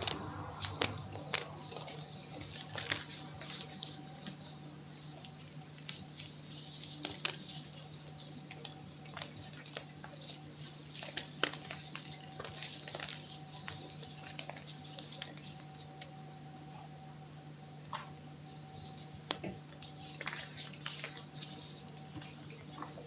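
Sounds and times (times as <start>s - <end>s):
chalk crunching: 0.0s - 16.2s, 18.5s - 23.0s
steady low hum: 0.0s - 23.0s.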